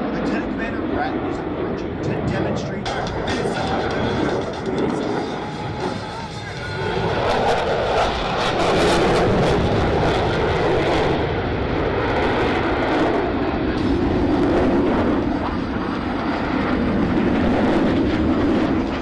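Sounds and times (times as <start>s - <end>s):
jets flying past: 0.0s - 19.0s.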